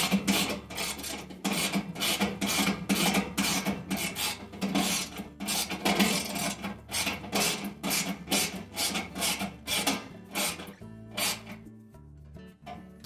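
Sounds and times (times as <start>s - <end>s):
ratchet wrench buzz: 0.0s - 11.6s.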